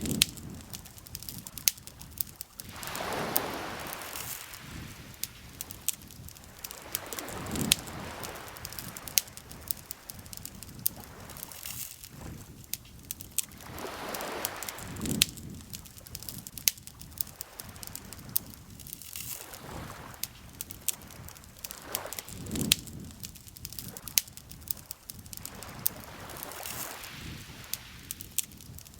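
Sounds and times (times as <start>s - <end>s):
lake water lapping: 0.0s - 18.3s, 19.3s - 22.8s, 25.4s - 28.3s
campfire crackling: 0.0s - 28.9s.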